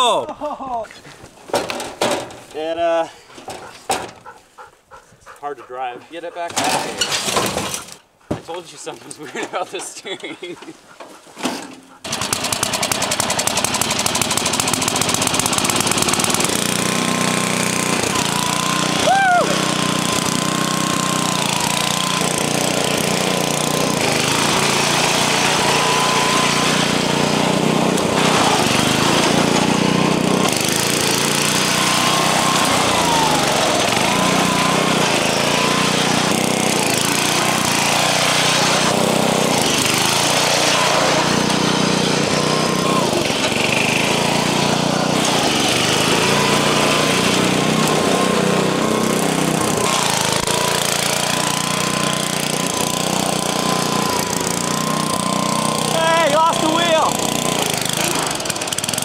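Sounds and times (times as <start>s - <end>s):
lawn mower engine revving: 6.3s - 8.0s, 11.4s - 59.0s.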